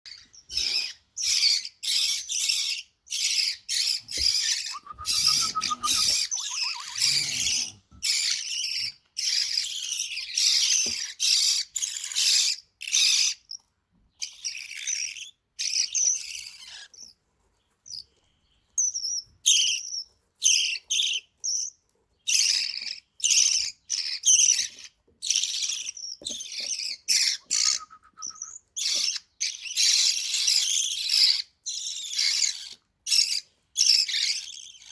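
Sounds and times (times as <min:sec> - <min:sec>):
bird chicks cheeping: 0:00.1 - 0:34.9.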